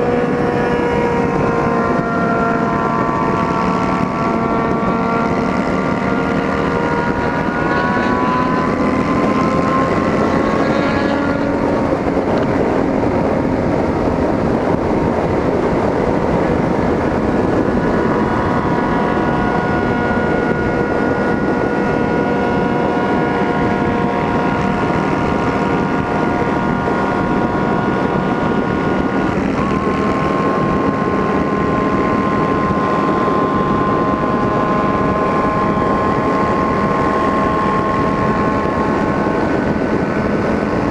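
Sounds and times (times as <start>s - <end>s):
motorcycle engines running: 0.0s - 40.9s
wind rush: 0.0s - 40.9s.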